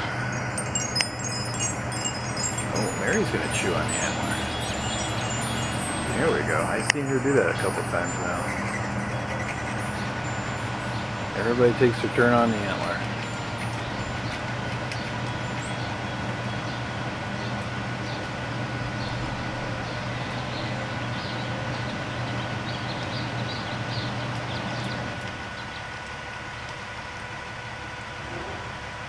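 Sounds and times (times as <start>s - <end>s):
low mechanical hum with whine: 0.0s - 29.0s.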